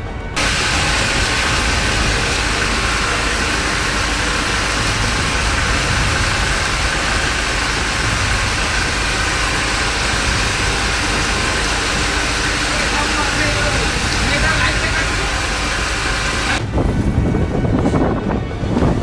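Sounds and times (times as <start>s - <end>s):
wind rumbling on microphone: 0.3s - 12.6s, 13.4s - 19.0s
strong wind gusting: 0.3s - 19.0s
heavy rain pouring: 0.4s - 17.7s.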